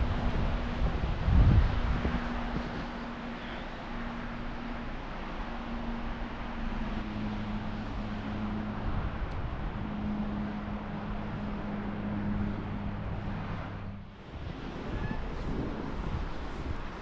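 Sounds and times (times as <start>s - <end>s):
continuous rushing noise: 0.0s - 17.0s
steady low hum: 0.0s - 17.0s.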